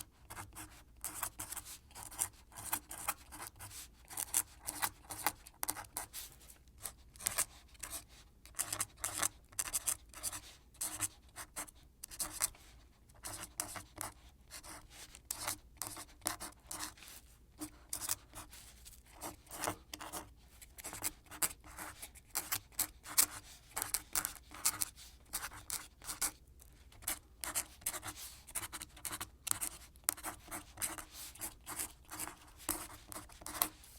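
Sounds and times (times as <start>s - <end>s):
quill pen scratching paper: 0.0s - 6.2s, 6.8s - 12.6s, 13.2s - 17.0s, 17.6s - 18.5s, 19.1s - 33.9s.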